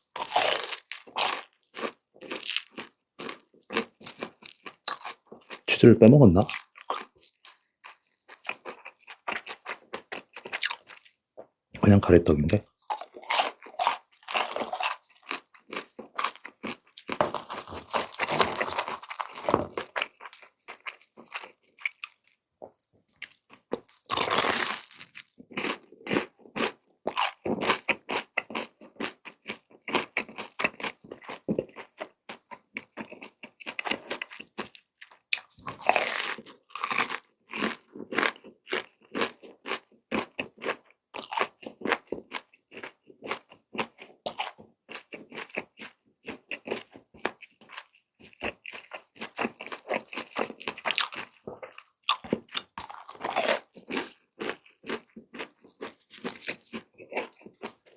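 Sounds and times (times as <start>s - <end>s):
chewing and crunching: 0.0s - 11.9s, 12.5s - 57.9s.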